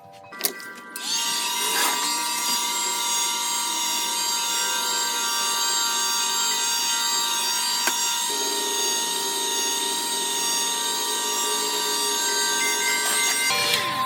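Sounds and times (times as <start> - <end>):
heat gun whine: 1.0 - 14.0.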